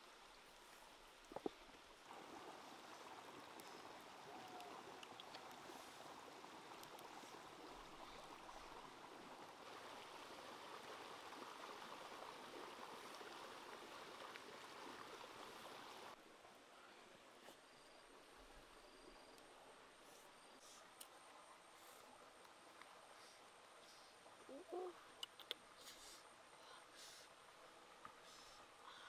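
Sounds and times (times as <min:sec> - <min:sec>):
stream water rushing: 0:00.0 - 0:16.6, 0:19.5 - 0:29.0.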